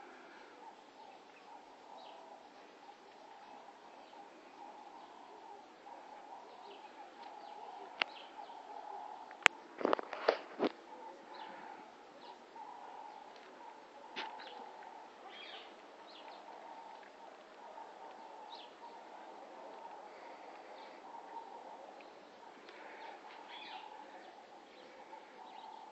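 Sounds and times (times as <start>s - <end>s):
birds chirping faintly: 0.0s - 25.9s.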